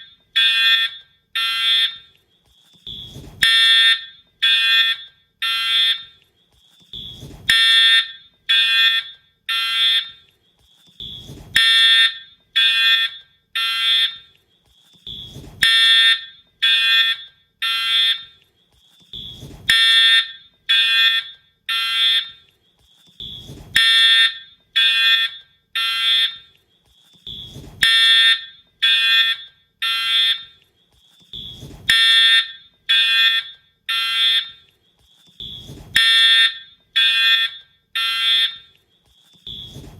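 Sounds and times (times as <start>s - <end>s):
buzzy fire alarm horn blasts: 0.0s - 39.9s.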